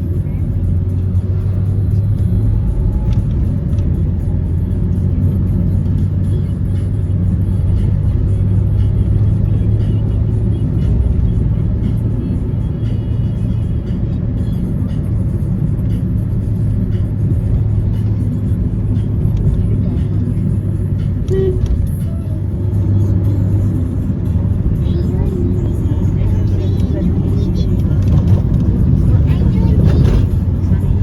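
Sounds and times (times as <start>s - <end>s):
music playing: 0.0s - 31.0s.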